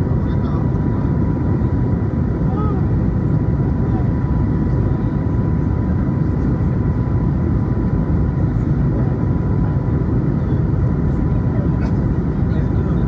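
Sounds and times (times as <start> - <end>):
airplane cabin engine and air noise: 0.0 - 13.0.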